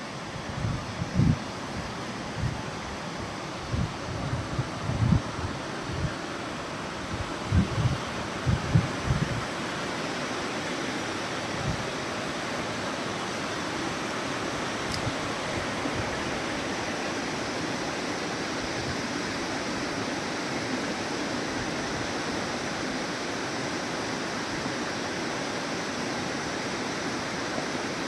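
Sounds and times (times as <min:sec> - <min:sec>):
waterfall rushing: 0:02.2 - 0:28.0.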